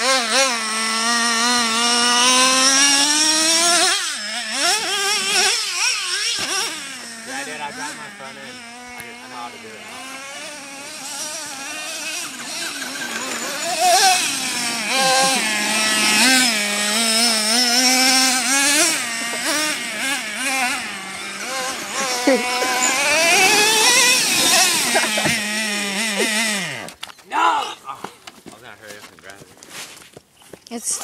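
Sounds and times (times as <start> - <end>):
small nitro engines revving: 0.0 - 28.1.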